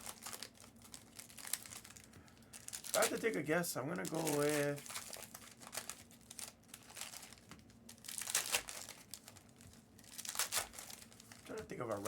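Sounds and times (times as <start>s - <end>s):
plastic wrappers crinkling and tearing: 0.0s - 12.0s.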